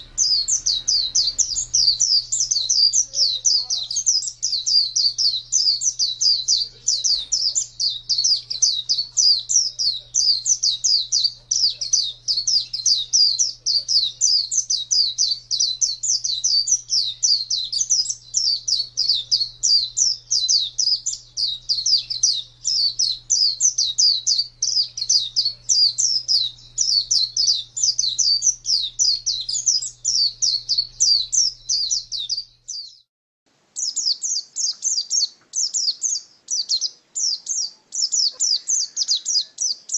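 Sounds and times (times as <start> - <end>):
bird singing rapid chirps: 0.0 - 33.1, 33.8 - 39.9
faint low hum: 0.0 - 34.0.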